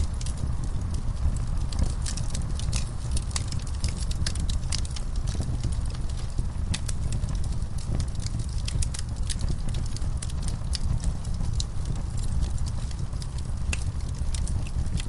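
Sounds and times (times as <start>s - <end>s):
fire popping and snapping: 0.0s - 15.0s
low rumble of fire: 0.0s - 15.0s.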